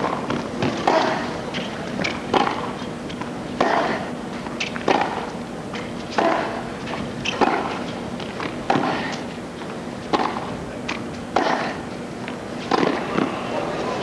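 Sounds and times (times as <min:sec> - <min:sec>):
rackets hitting tennis ball: 0:00.0 - 0:13.4.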